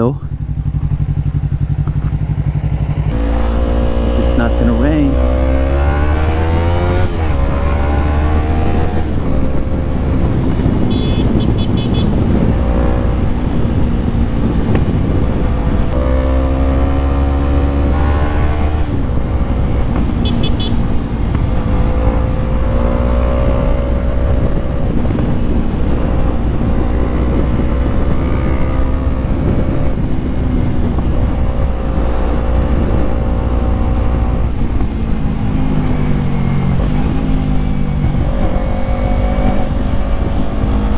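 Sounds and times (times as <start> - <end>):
motorcycle engine revving: 0.0 - 40.9
wind rumble: 0.0 - 40.9.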